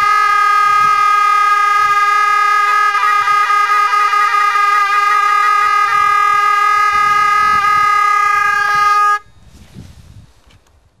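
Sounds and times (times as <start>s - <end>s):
double-reed oboes playing: 0.0s - 9.3s.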